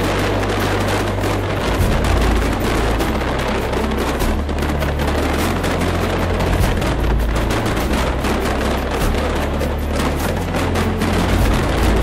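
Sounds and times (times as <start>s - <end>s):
fireworks booms: 0.0s - 12.0s
fireworks crackling: 0.0s - 12.0s.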